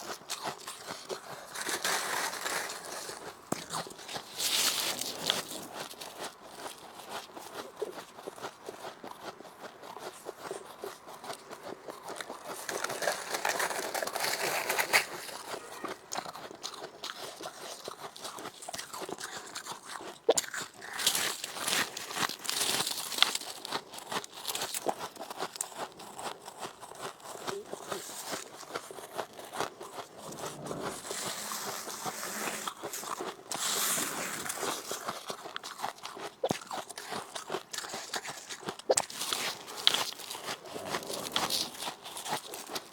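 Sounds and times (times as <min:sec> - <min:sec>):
person chewing crunchy frost: 0:00.0 - 0:42.9.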